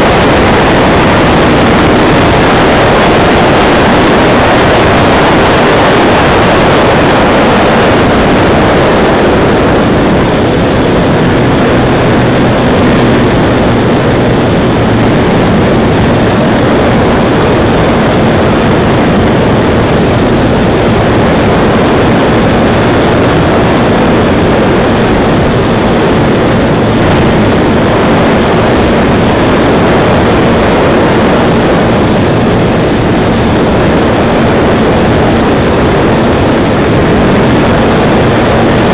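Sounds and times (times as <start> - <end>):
wind rush: 0.0 - 38.9.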